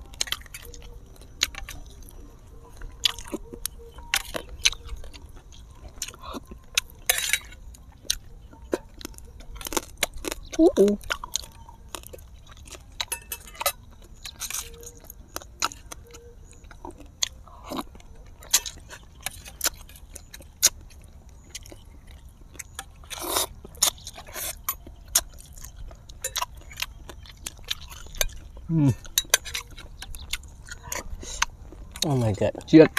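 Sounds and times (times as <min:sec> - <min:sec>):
people chewing and lip-smacking: 0:00.0 - 0:32.9.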